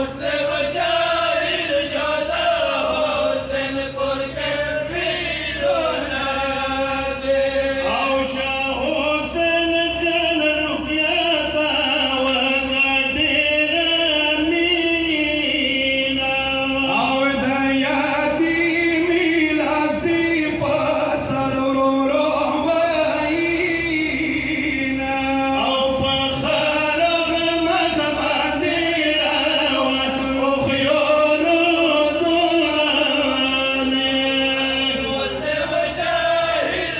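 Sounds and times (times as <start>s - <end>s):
men chanting a lament: 0.0s - 36.9s.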